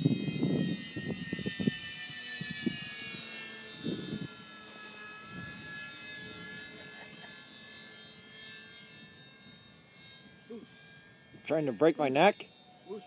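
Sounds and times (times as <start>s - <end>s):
model plane motor whine: 0.0s - 13.0s.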